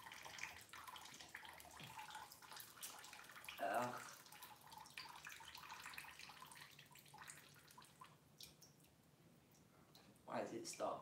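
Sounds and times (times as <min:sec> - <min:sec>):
water dripping and trickling: 0:00.0 - 0:11.0.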